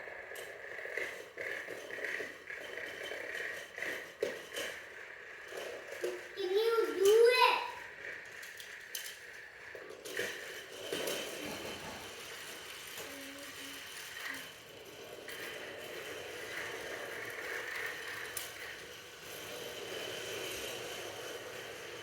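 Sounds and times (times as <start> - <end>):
toy train motor whirring: 0.0 - 22.0.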